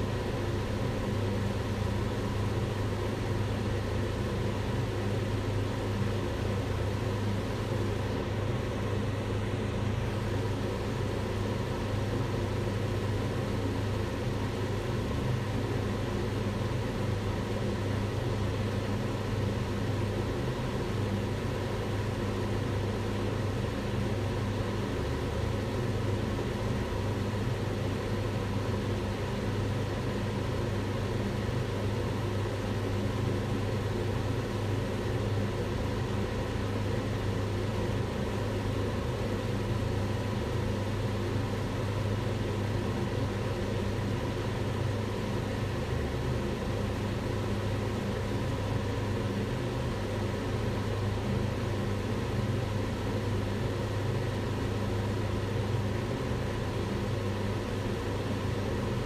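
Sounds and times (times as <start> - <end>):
range hood fan running: 0.0 - 59.0.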